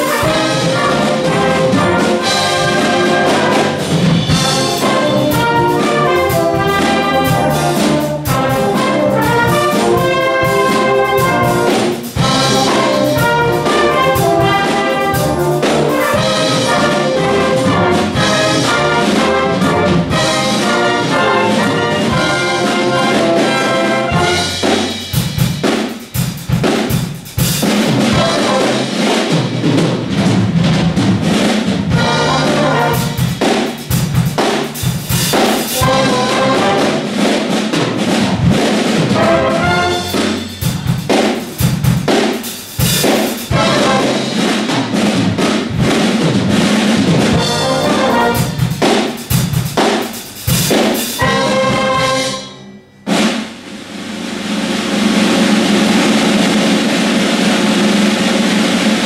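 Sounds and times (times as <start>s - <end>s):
loud brass chords: 0.0s - 25.5s, 27.7s - 29.3s, 31.8s - 42.0s, 42.8s - 45.2s, 47.2s - 49.3s, 50.5s - 58.5s
drum kit strokes and fills: 0.0s - 59.0s.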